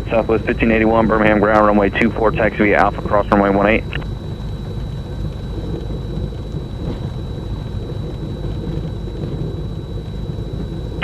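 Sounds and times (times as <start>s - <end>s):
thin high whine: 0.0s - 11.0s
twin piston engines rumbling: 0.0s - 11.0s.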